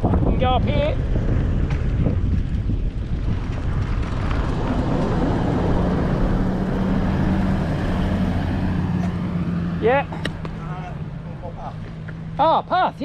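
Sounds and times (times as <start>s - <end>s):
wind rushing over microphone: 0.0s - 11.2s.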